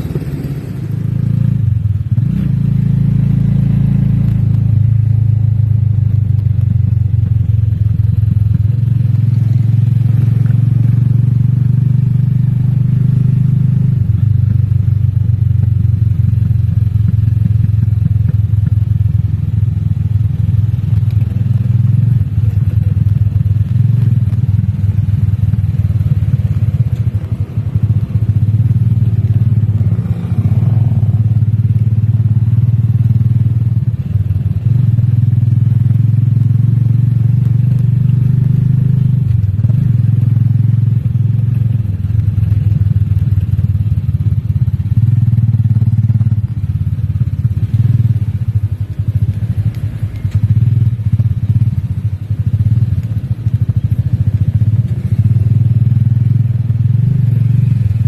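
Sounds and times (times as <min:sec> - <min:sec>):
vehicle engine drone from cab: 0:00.0 - 0:58.0.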